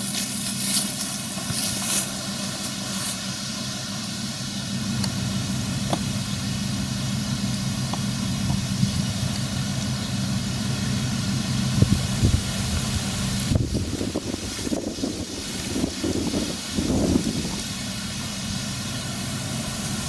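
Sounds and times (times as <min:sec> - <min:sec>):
combine harvester humming: 0:00.0 - 0:20.0.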